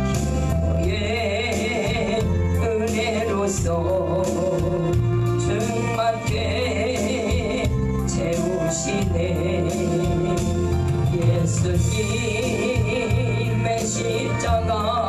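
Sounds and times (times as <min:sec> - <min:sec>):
steady bass accompaniment: 0:00.0 - 0:15.0.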